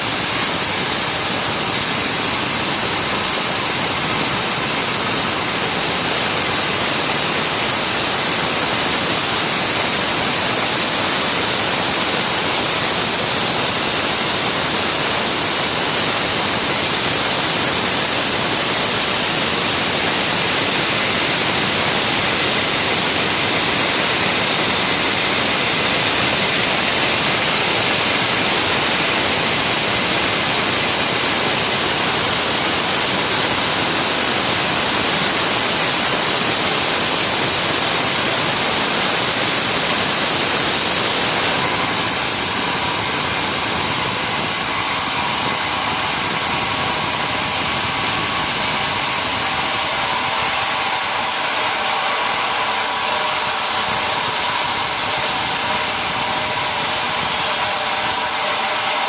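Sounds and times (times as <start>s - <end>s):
sawmill machinery hiss and whine: 0.0s - 59.0s.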